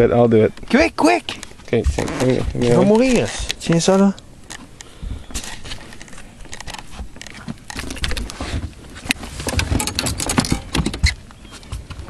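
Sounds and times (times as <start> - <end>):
clicks and knocks in a small boat: 0.4 - 12.0.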